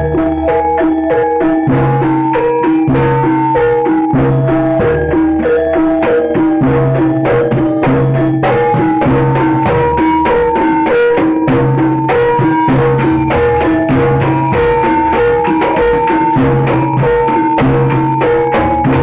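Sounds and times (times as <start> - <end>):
percussion ensemble fast beat: 0.0 - 19.0.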